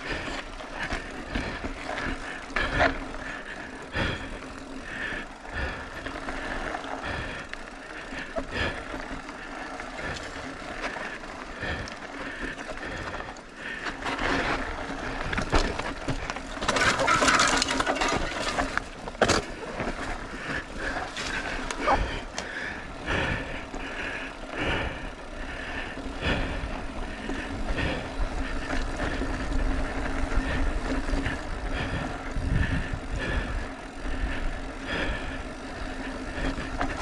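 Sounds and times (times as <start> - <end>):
bike rattling over bumps: 0.0 - 37.0
bike tyres rumbling on stone: 0.0 - 37.0.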